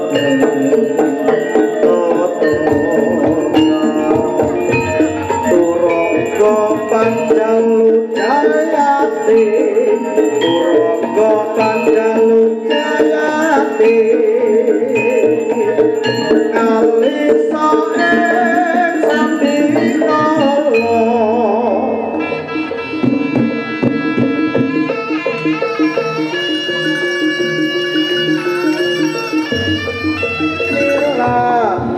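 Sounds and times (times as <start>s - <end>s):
hand drums rhythm: 0.0s - 31.9s
ringing held tones: 0.0s - 31.9s
wailing melody line: 0.0s - 31.9s.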